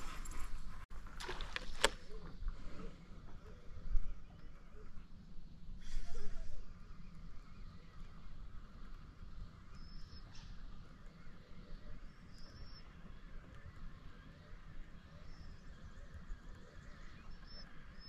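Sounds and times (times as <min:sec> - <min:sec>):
distant birds calling: 0:00.0 - 0:18.0.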